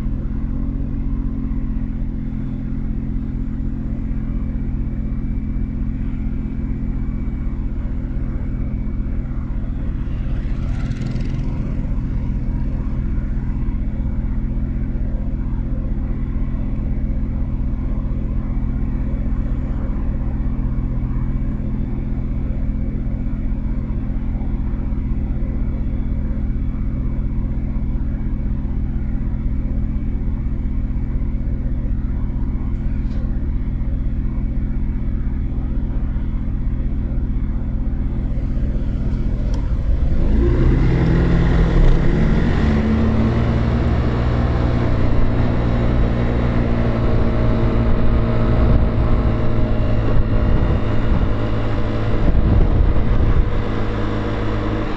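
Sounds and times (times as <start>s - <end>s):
motorcycle engine: 0.0s - 54.9s
wind and road noise: 0.0s - 54.9s.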